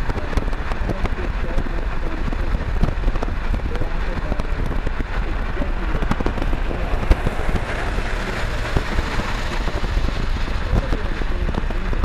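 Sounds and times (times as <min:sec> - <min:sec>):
freight cars rumbling: 0:00.0 - 0:12.0
wheels clattering on rails: 0:00.0 - 0:12.0.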